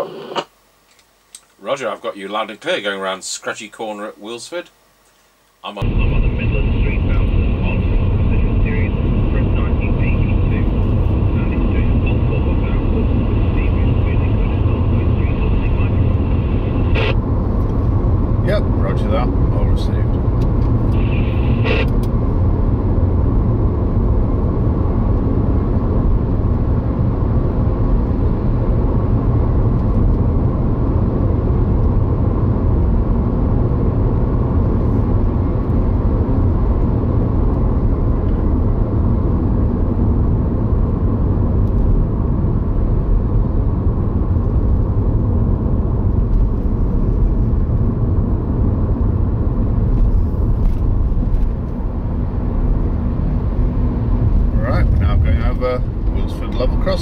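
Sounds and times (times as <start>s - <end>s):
car road and engine noise: 5.8s - 57.0s.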